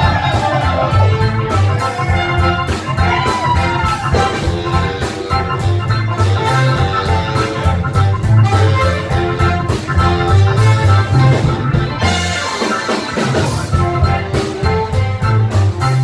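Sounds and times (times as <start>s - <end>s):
bass line: 0.0s - 16.0s
drums: 0.0s - 16.0s
electric guitar and keyboard: 0.0s - 16.0s
trumpet and saxophones: 0.0s - 16.0s.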